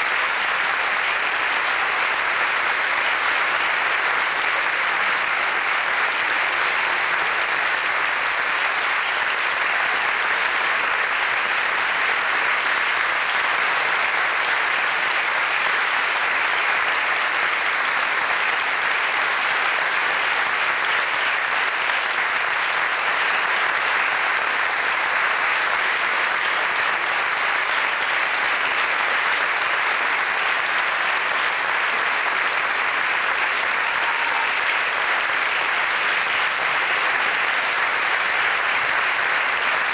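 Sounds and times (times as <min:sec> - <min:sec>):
audience applause: 0:00.0 - 0:39.9.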